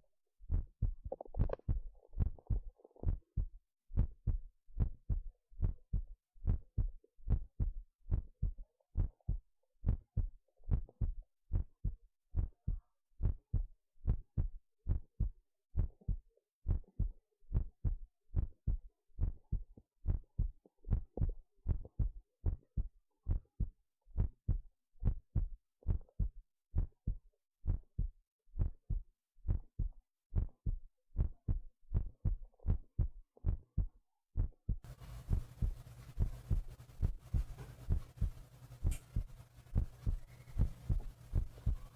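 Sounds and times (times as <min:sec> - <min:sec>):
heartbeat thumps: 0:00.4 - 0:41.9.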